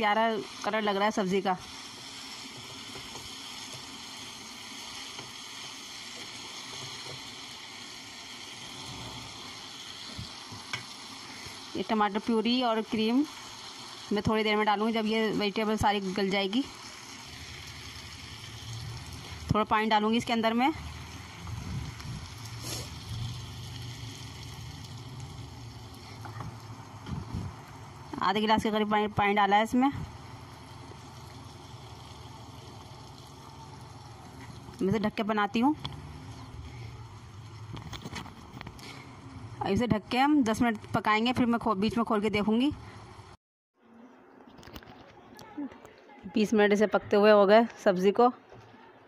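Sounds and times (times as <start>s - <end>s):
vegetables sizzling in a pan: 0.0s - 43.4s.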